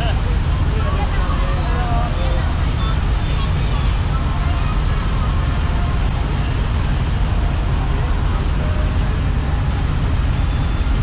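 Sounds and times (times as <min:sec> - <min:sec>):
diesel truck engines idling: 0:00.0 - 0:11.0
people talking: 0:00.0 - 0:11.0.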